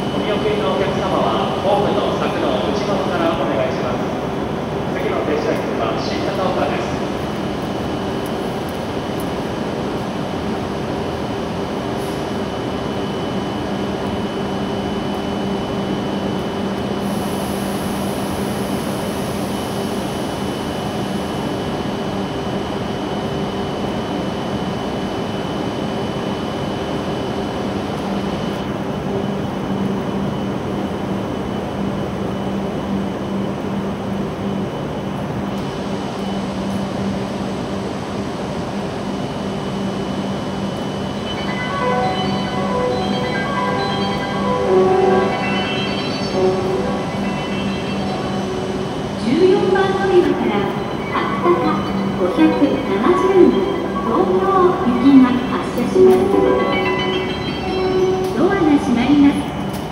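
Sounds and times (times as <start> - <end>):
train equipment humming: 0.0 - 59.9.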